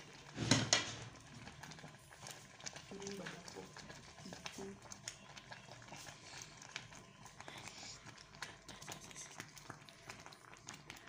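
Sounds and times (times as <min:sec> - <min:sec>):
thick porridge boiling in a pot: 0:00.0 - 0:11.0.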